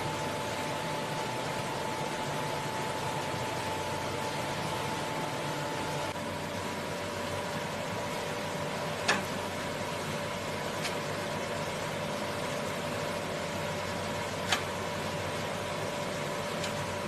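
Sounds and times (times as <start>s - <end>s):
spindle moulder whirring hum: 0.0s - 17.0s.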